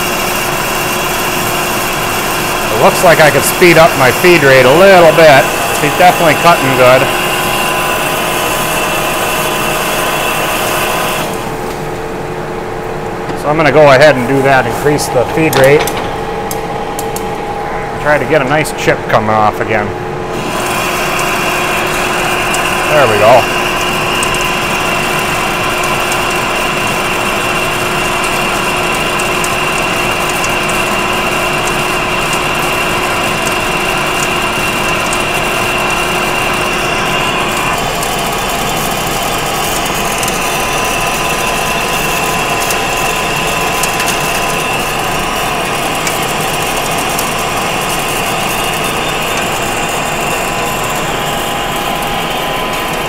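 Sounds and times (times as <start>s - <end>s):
metal cutting noise: 0.0s - 11.9s, 13.5s - 19.4s, 20.2s - 53.0s
lathe machine whine: 0.0s - 53.0s.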